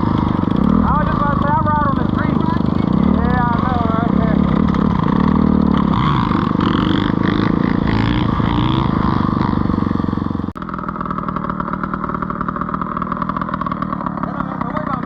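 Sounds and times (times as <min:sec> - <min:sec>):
dirt bike engine running: 0:00.0 - 0:15.0
quieter engine sound: 0:00.0 - 0:15.0.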